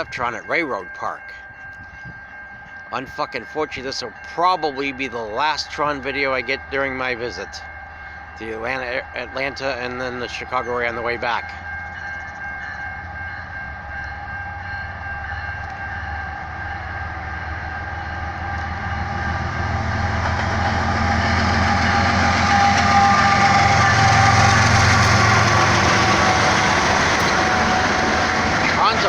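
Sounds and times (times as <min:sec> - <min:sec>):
locomotive engine rumble: 0:00.0 - 0:29.0
train wheels rolling on rails: 0:00.0 - 0:29.0.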